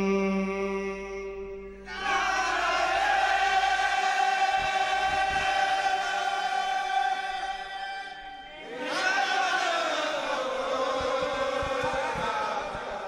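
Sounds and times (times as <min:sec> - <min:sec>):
group of voices chanting in unison: 0:01.9 - 0:13.0.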